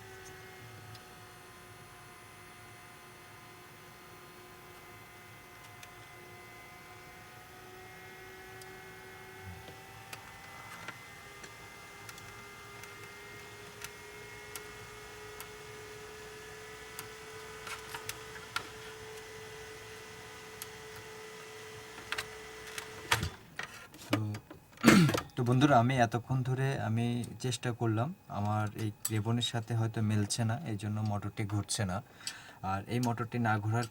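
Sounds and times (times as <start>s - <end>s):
projector whirring hum: 0.0s - 33.9s.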